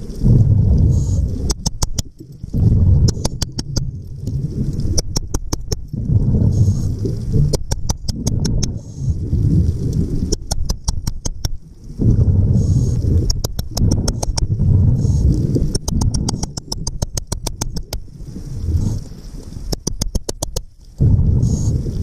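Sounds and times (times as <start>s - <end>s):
diver exhaling air bubbles: 0.0s - 11.2s, 11.9s - 19.9s, 21.0s - 22.0s
sharp underwater clicks: 0.2s - 12.0s, 12.6s - 22.0s.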